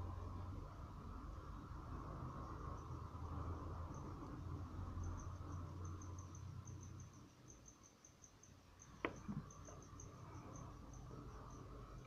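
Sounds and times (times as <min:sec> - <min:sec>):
faint high chirping: 0:01.2 - 0:12.0.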